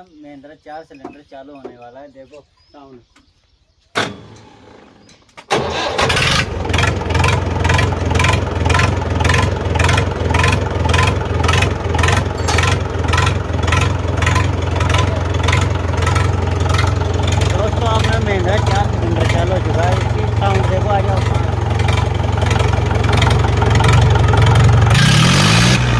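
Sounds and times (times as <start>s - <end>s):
tractor diesel engine starting: 4.0s - 25.9s
diesel engine idling: 4.5s - 25.9s.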